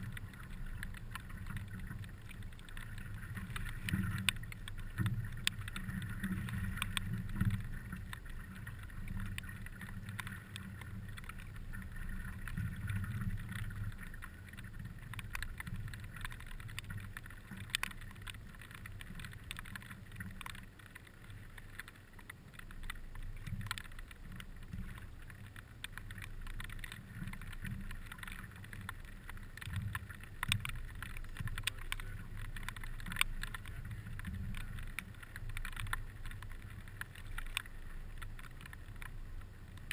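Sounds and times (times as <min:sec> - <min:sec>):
small ticks: 0:00.0 - 0:39.9
wind rumble on microphone: 0:00.0 - 0:39.9.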